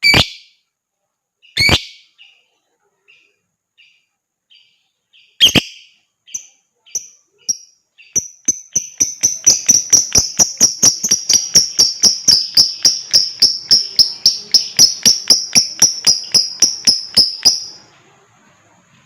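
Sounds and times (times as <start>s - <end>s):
lovebird chirping: 0.0s - 0.6s, 1.4s - 17.9s.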